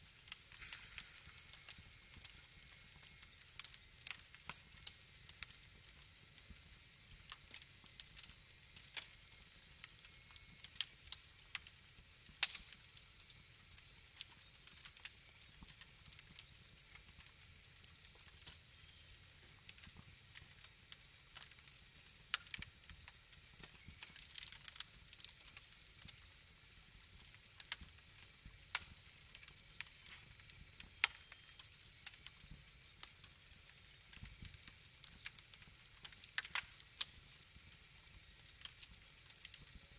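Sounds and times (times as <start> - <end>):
faint steady hiss: 0.0 - 39.9
wood fire crackling: 0.0 - 39.9.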